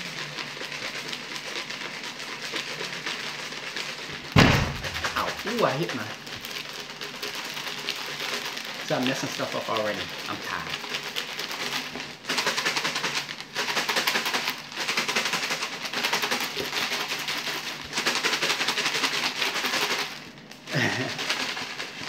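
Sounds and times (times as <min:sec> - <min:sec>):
paper slips rattling in plastic container: 0:00.0 - 0:22.0.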